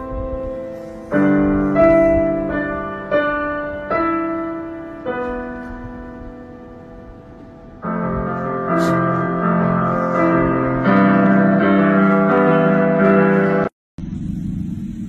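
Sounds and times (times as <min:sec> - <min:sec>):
piano notes struck: 0:00.0 - 0:13.7.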